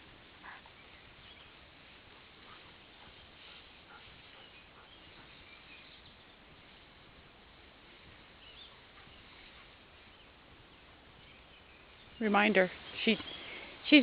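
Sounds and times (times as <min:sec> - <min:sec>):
faint outdoor hiss: 0:00.0 - 0:14.0
distant bird chirps: 0:00.4 - 0:06.6, 0:07.9 - 0:14.0.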